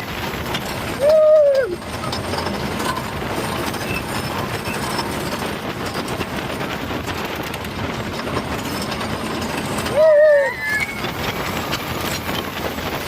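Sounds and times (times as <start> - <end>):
roller coaster rumbling clatter: 0.0 - 13.0.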